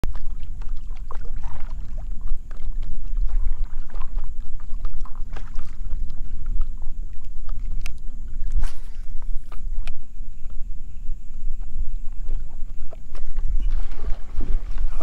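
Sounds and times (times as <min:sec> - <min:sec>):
steady low rumble: 0:00.0 - 0:15.0
water lapping against hull: 0:00.0 - 0:15.0.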